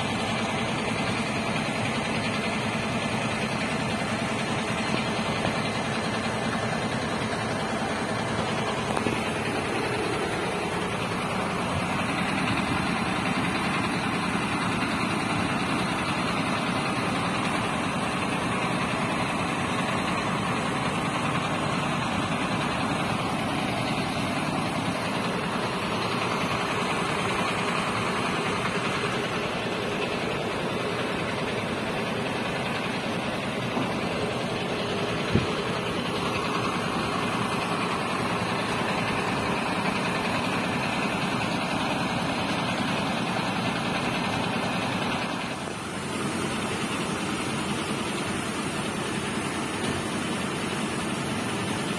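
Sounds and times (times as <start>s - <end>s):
heavy diesel trucks idling: 0.0s - 51.9s.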